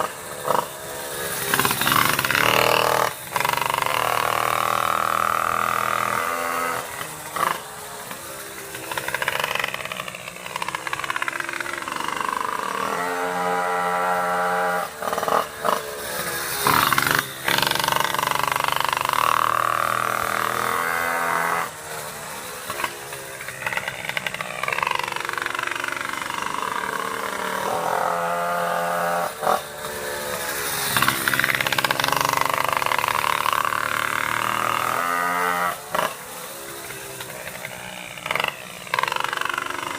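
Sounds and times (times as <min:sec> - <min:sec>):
small two-stroke engine passing: 0:00.0 - 0:39.9.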